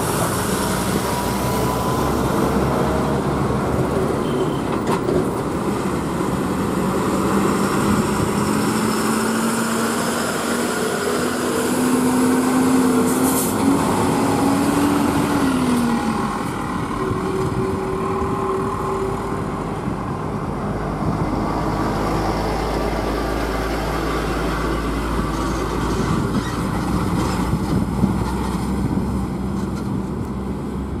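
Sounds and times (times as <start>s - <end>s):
lorry diesel engines running: 0.0s - 31.0s
tyres rolling on road: 0.0s - 31.0s.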